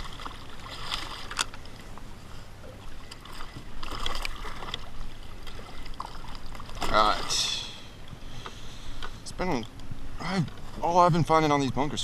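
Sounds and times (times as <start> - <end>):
water lapping against kayak hull: 0.0 - 12.0.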